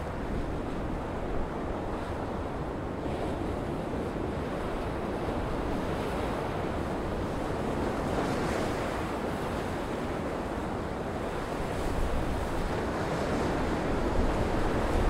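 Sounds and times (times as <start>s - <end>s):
strong wind: 0.0s - 15.0s
wind buffeting microphone: 0.0s - 15.0s.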